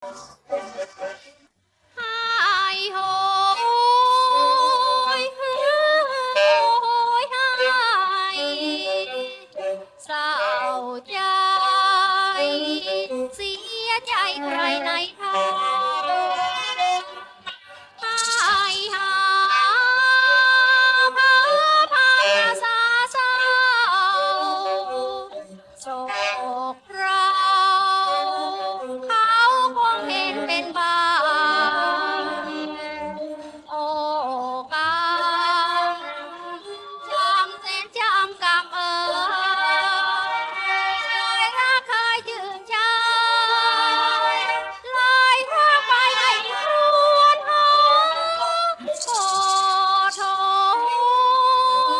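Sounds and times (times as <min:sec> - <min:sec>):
woman singing: 0:02.0 - 0:16.7, 0:18.0 - 0:51.9.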